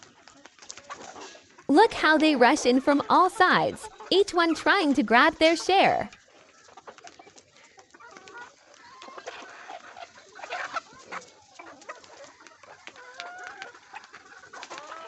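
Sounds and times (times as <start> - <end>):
hens clucking: 0.6 - 7.1, 7.8 - 15.0.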